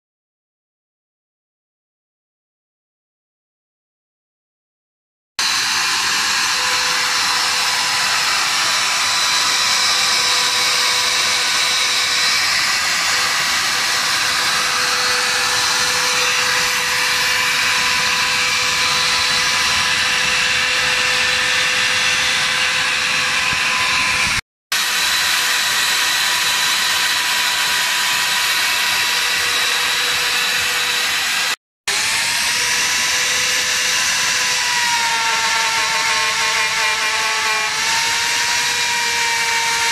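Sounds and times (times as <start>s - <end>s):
router motor whining cutting wood: 5.4s - 39.9s.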